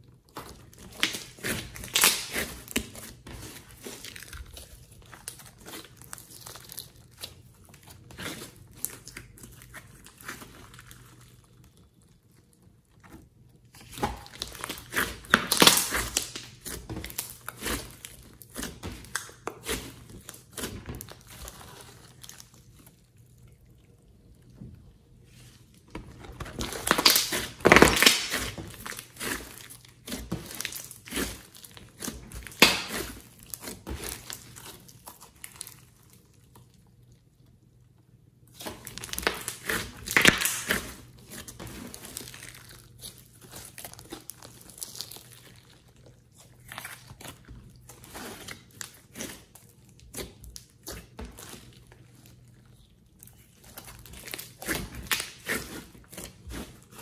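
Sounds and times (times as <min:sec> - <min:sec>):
slime crackling and squelching: 0:00.0 - 0:57.0.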